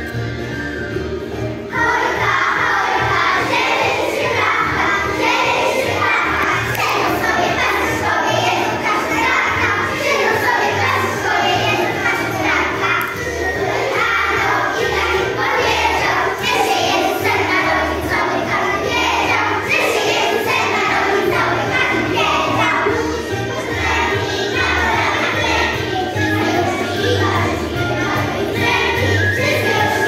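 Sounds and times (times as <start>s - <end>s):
children singing in unison: 1.7s - 30.0s.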